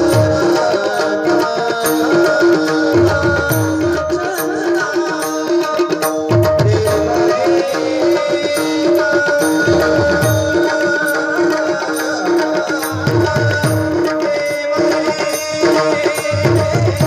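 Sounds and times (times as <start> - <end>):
tabla rhythm: 0.0 - 17.0.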